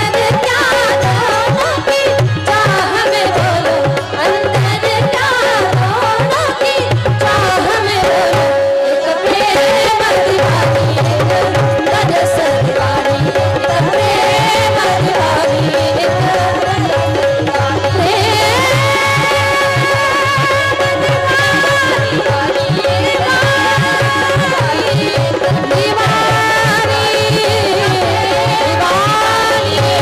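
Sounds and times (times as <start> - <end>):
tabla playing: 0.0 - 30.0
woman singing: 0.0 - 30.0.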